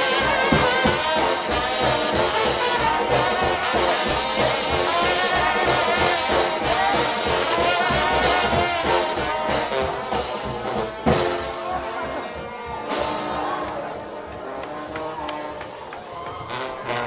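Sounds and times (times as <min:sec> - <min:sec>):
brass band playing: 0:00.0 - 0:17.0
drum kit: 0:00.0 - 0:17.0.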